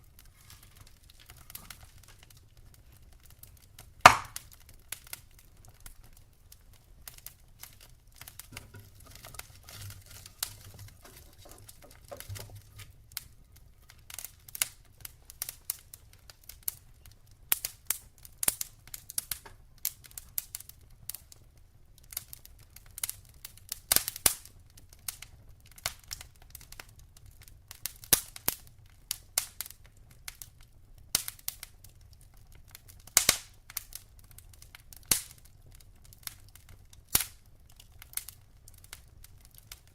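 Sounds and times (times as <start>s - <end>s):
faint low fire rumble: 0.0s - 39.9s
logs crackling and popping: 0.0s - 39.9s.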